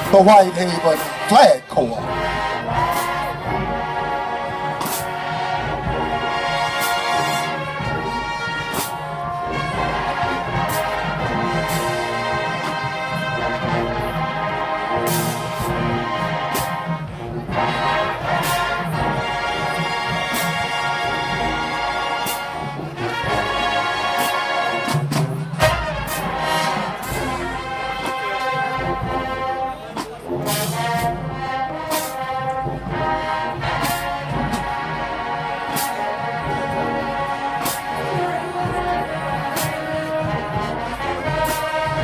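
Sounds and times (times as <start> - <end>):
marching band brass playing: 0.0 - 42.0.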